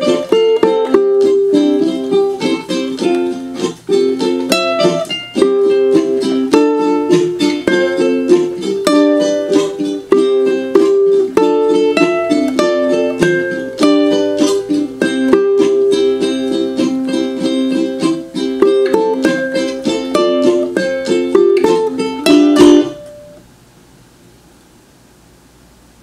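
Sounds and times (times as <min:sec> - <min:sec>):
ukulele strumming chords: 0:00.0 - 0:23.5.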